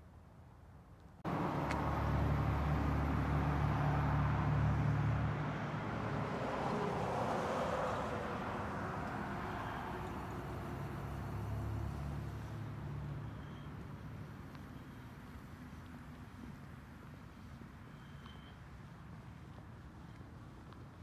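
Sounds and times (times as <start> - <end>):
road traffic rumble: 0.6 - 21.0.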